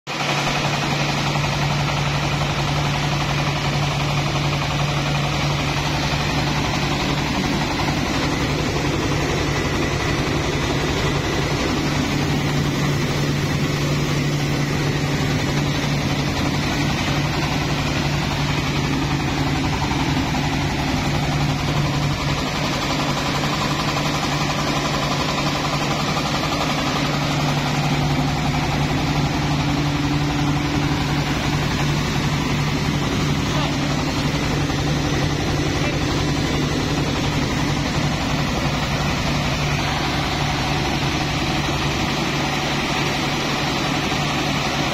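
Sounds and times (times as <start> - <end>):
rice mill machine hum: 0.1 - 44.9.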